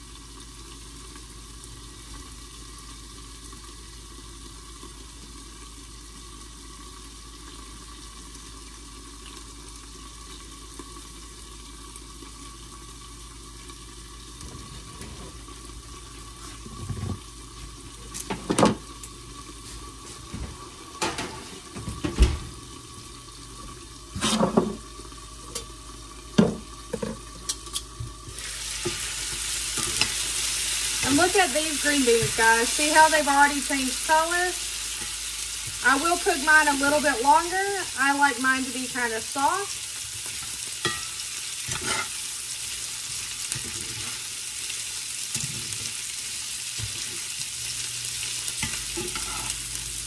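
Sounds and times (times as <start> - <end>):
vegetables sizzling in skillet: 0.0 - 50.0.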